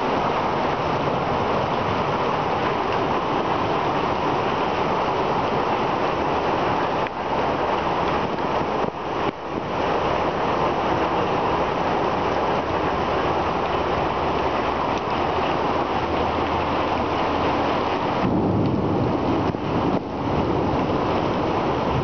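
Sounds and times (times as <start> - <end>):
heavy rain pouring: 0.0 - 22.0
rushing water: 0.0 - 22.0.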